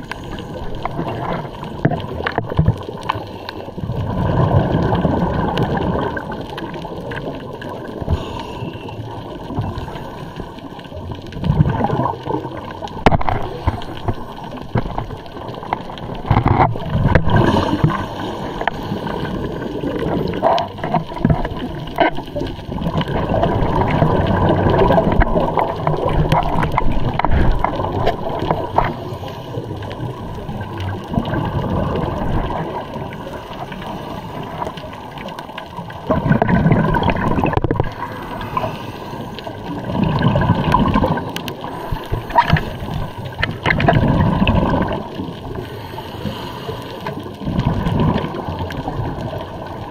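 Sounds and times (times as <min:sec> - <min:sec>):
bubbles gurgling underwater: 0:00.0 - 0:45.8, 0:46.9 - 0:49.9.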